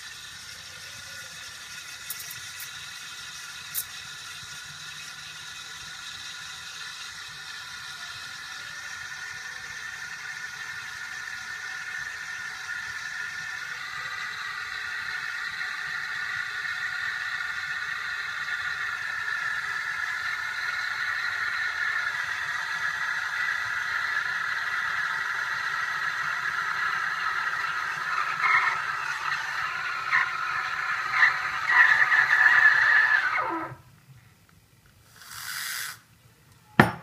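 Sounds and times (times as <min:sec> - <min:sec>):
steam wand hissing into milk: 0:00.0 - 0:33.8, 0:35.0 - 0:36.2.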